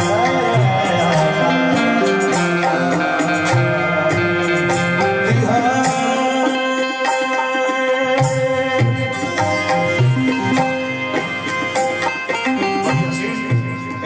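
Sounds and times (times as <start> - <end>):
man singing: 0.0 - 10.8, 12.6 - 14.0
harmonium: 0.0 - 14.0
tabla strokes: 0.0 - 14.0.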